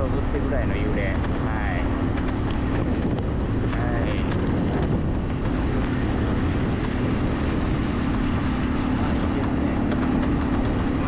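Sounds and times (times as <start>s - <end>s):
motorbike engine running: 0.0s - 11.0s
wind rushing over microphone: 0.0s - 11.0s.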